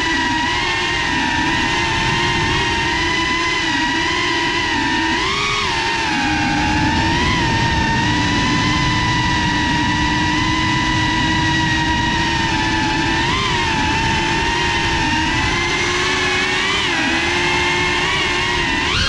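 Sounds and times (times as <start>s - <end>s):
drone motors and propellers whining: 0.0s - 19.0s.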